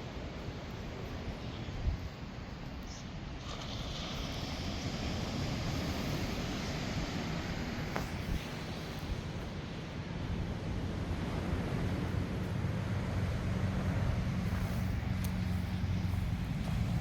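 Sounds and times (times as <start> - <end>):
waves washing against shore: 0.0 - 17.0
low engine hum: 2.8 - 17.0.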